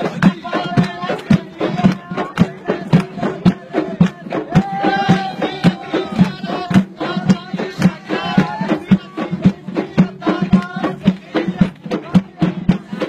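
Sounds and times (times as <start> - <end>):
frame drums beating: 0.0 - 13.0
person singing: 0.0 - 13.0.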